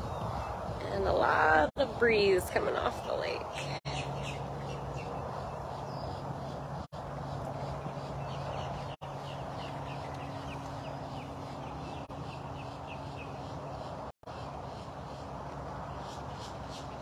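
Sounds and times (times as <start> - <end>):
breeze noise: 0.0 - 14.1.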